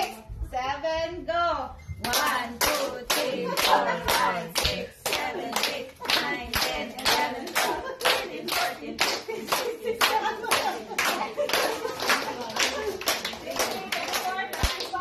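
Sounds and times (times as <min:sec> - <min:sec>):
people clapping in unison: 0:02.0 - 0:15.0.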